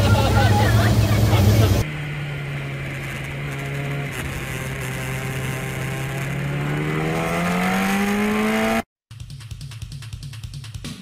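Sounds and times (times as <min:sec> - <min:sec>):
engine drone: 0:00.0 - 0:08.9.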